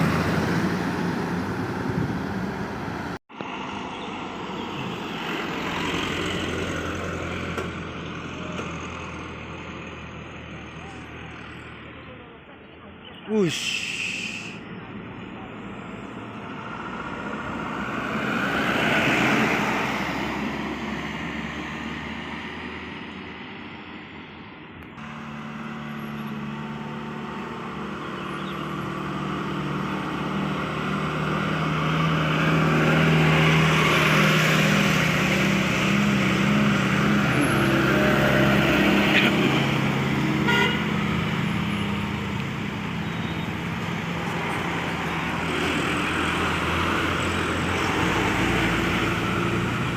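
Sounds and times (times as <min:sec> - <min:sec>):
vehicle passing: 0:00.0 - 0:11.8, 0:15.8 - 0:23.4, 0:25.0 - 0:49.9
heavy diesel vehicle droning: 0:00.0 - 0:23.4, 0:24.9 - 0:49.9.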